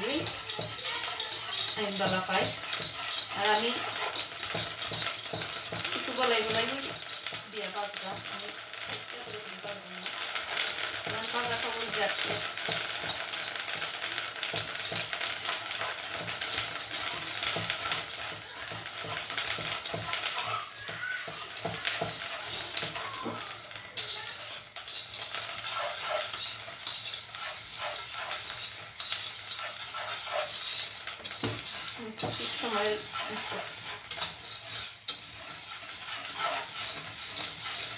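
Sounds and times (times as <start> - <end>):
rice grains rustling in pan: 0.0 - 37.9
spoon scraping and tapping pan: 0.0 - 37.9.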